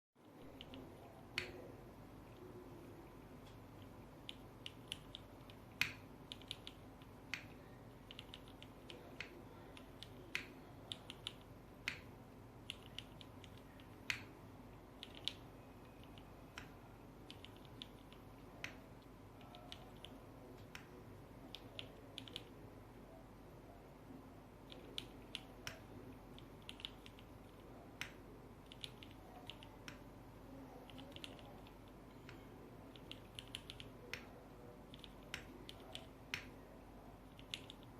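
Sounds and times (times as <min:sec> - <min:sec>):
mechanical keyboard typing: 0:00.2 - 0:01.7, 0:03.8 - 0:22.6, 0:24.6 - 0:36.6, 0:37.2 - 0:37.9
faint steady hum: 0:00.2 - 0:37.9.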